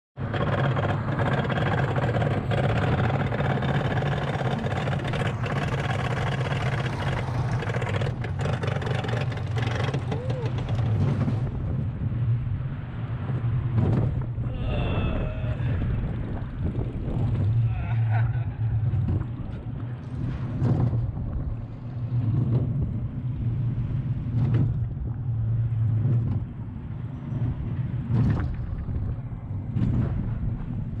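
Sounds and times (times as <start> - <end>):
coaster car rumbling on track: 0.2 - 31.0
low drone: 0.2 - 31.0.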